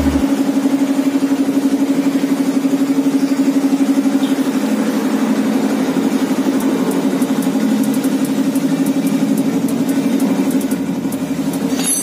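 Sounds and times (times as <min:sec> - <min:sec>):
engine running with fast pulsing hum: 0:00.0 - 0:12.0.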